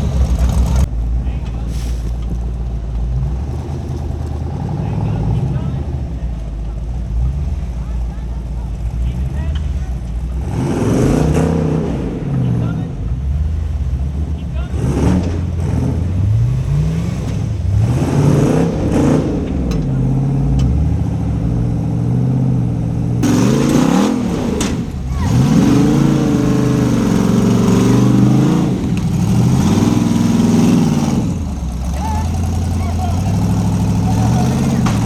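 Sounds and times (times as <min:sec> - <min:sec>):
engine revving: 0:00.0 - 0:35.0.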